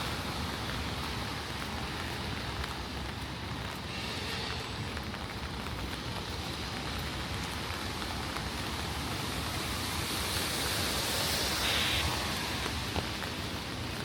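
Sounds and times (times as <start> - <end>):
rain on a wet street: 0.0 - 14.0
raindrop ticks: 0.0 - 14.0.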